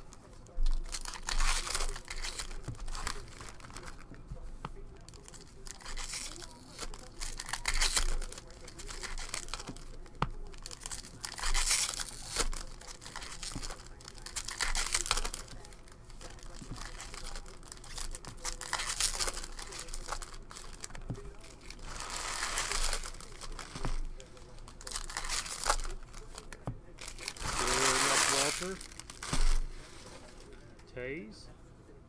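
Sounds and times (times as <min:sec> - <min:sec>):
foil wrapper crinkling and tearing: 0:00.0 - 0:04.2, 0:04.8 - 0:30.6.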